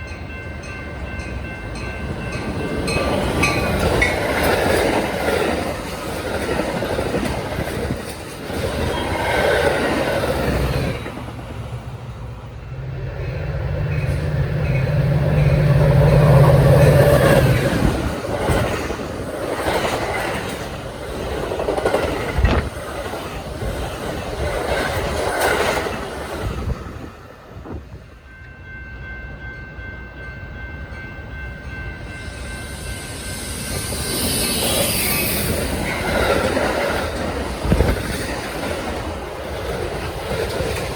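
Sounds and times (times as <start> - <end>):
train wheels clattering on rails: 0.0 - 11.8, 13.1 - 28.8, 31.2 - 40.9.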